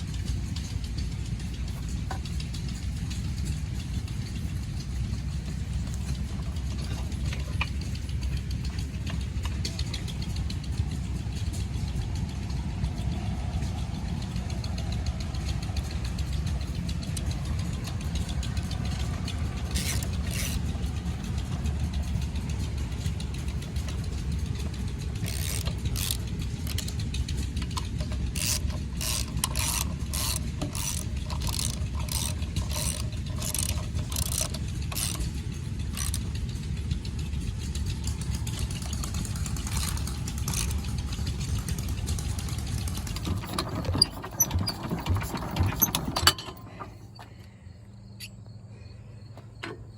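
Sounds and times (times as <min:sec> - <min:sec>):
sharp clicking: 0:00.0 - 0:48.6
single-cylinder engine running: 0:00.0 - 0:49.9.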